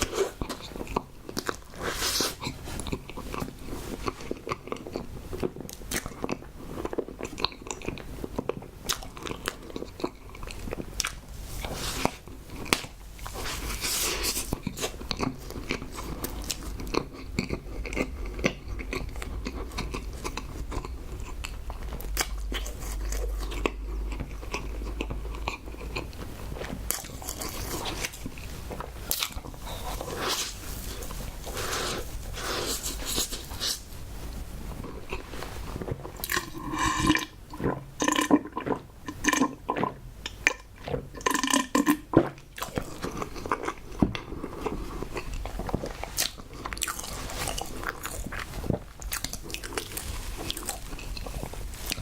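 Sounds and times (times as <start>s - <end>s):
chewing and biting: 0.0s - 52.0s
low steady hum: 0.0s - 52.0s.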